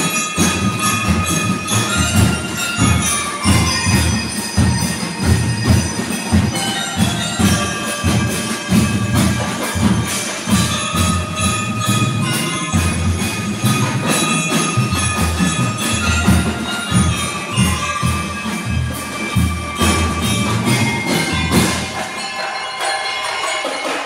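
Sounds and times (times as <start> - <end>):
marching snare and bass drums: 0.0 - 22.3
bell lyres ringing melody: 0.0 - 24.0.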